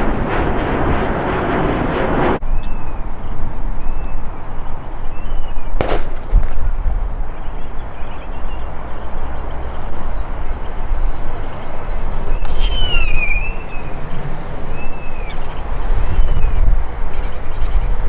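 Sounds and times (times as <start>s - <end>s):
distant jet engine rumble: 0.0s - 18.0s
birds chirping: 2.4s - 18.0s.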